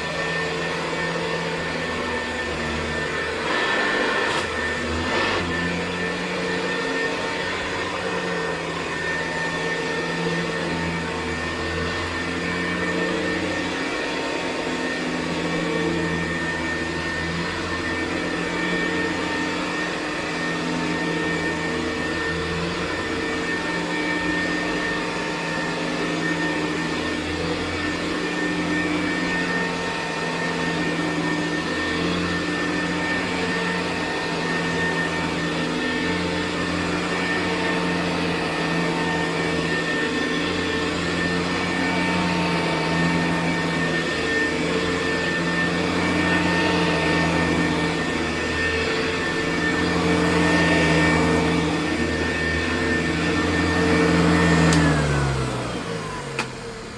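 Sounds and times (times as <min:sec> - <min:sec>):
vacuum cleaner running on carpet: 0:00.0 - 0:56.9.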